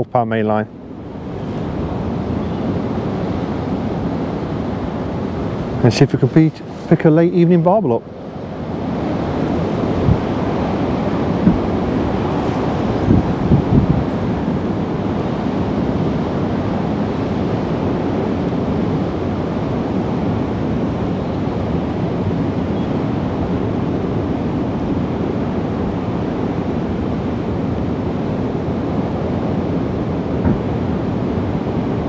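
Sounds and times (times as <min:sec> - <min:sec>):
strong wind rumbling on microphone: 0:00.0 - 0:32.0.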